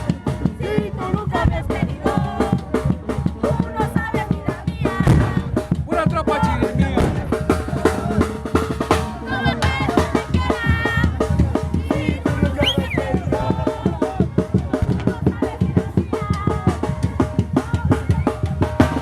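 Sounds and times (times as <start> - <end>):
drums steady beat: 0.0 - 19.0.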